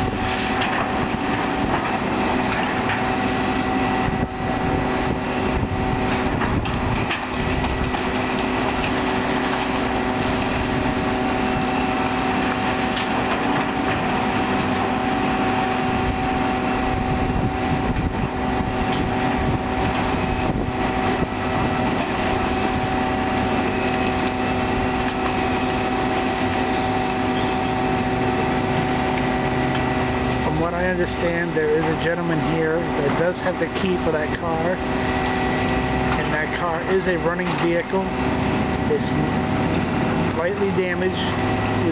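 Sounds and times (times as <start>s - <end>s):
demolition machinery engine drone: 0.0s - 41.9s.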